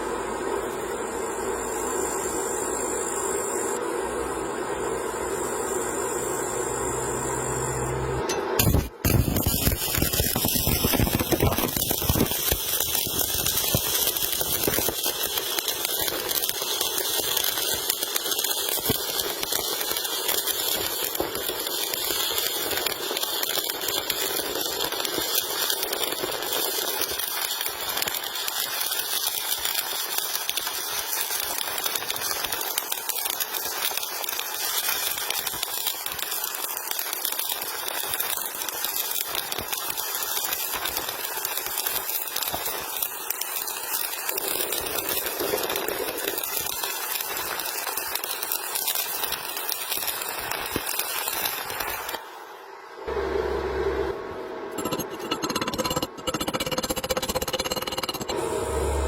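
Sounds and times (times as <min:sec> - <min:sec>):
welding arc crackling and hissing: 0:04.8 - 0:54.2, 0:54.8 - 0:59.0.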